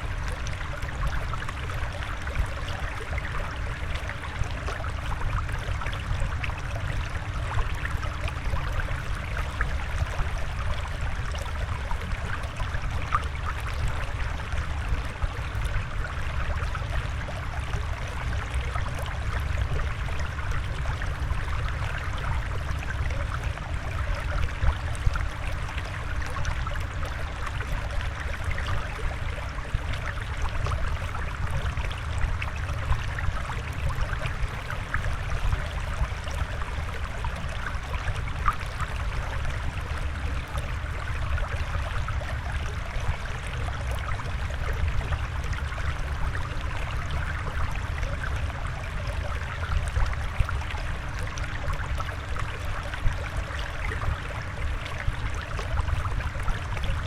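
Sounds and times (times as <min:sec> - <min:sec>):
trickling water: 0:00.0 - 0:57.0.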